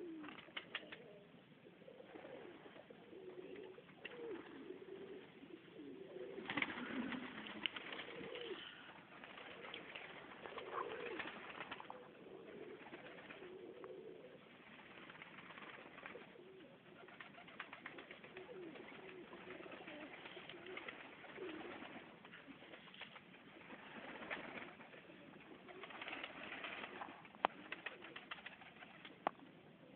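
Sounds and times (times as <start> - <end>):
pigeons cooing: 0.0 - 29.9.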